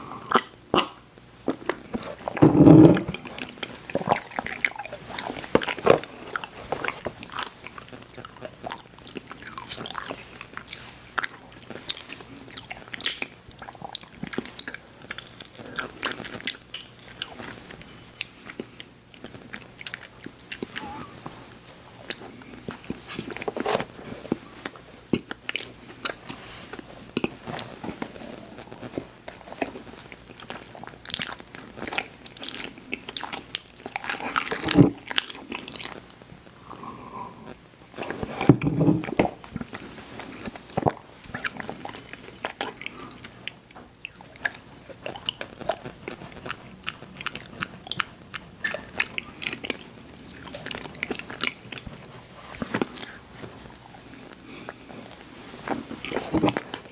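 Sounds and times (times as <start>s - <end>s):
chewing crunchy cookies: 0.1s - 37.1s, 37.8s - 56.9s.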